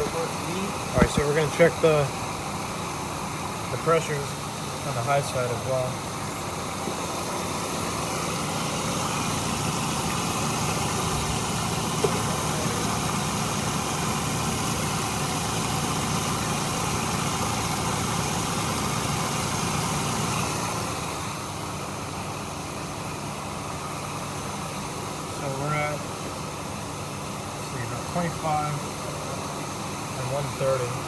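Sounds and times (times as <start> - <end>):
air conditioning running: 0.0 - 31.0
car engine idling: 0.0 - 31.0.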